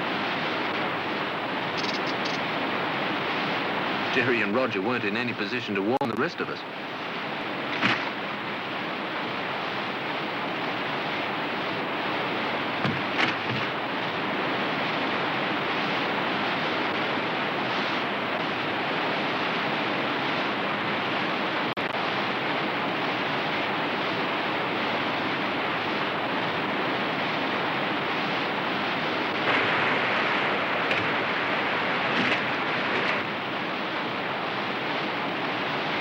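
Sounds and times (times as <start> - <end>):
water rushing through rapids: 0.0 - 36.0.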